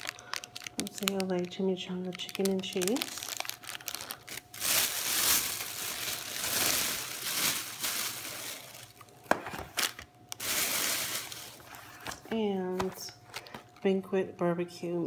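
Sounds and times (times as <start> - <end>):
plastic wrappers crinkling: 0.0 - 13.9.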